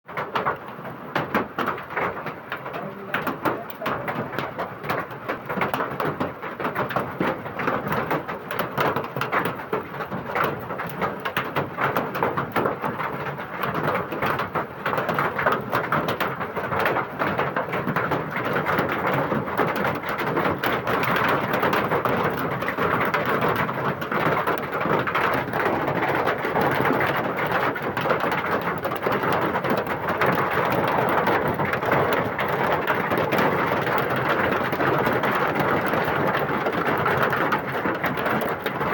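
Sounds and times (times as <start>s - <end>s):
hail and heavy rain: 0.1s - 38.9s.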